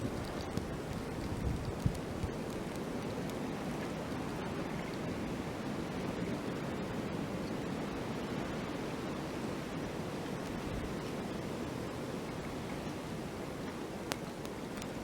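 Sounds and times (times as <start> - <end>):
wind blowing steadily: 0.0 - 15.0.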